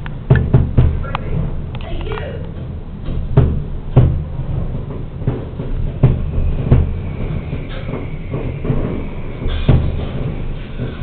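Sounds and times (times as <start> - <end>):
distant fireworks booming: 0.0 - 11.0
low rumble: 0.0 - 11.0.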